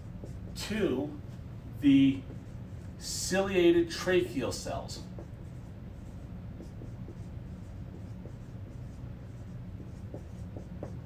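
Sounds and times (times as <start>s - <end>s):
low room hum: 0.0s - 11.0s
marker scratching on whiteboard: 0.0s - 11.0s.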